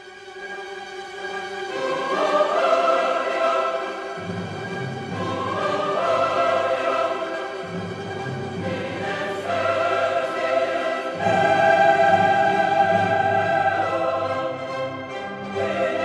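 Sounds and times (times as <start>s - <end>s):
choir singing: 0.6s - 16.0s.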